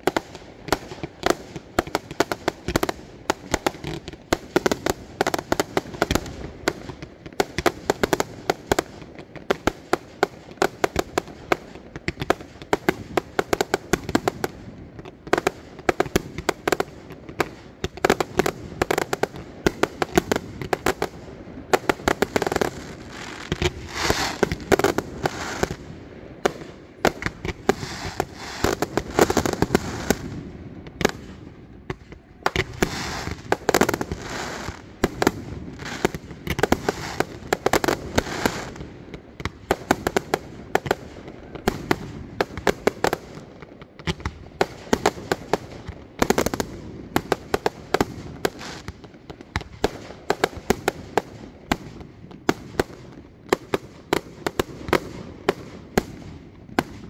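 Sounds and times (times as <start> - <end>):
firework crackling: 0.0 - 57.0.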